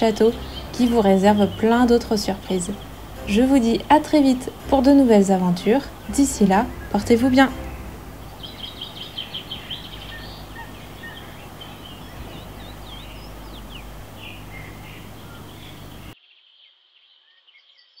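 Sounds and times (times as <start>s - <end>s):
outdoor background hiss: 0.0s - 17.2s
songbirds chirping and twittering: 0.0s - 18.0s.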